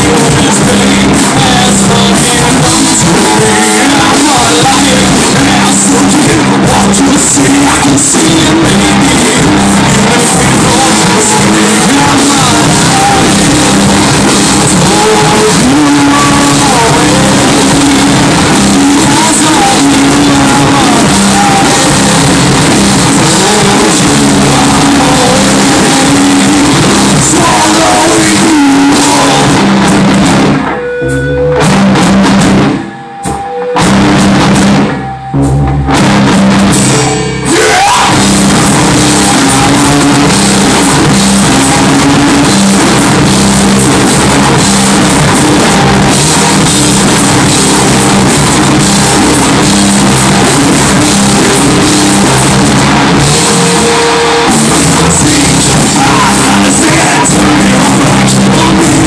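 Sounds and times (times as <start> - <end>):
rock band playing loud: 0.0 - 59.0.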